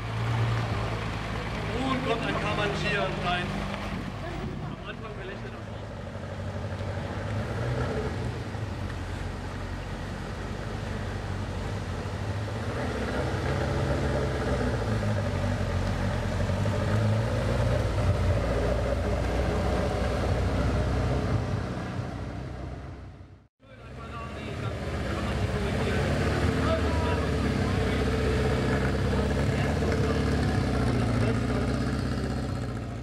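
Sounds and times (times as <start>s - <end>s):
car engine driving past: 0.0s - 33.0s.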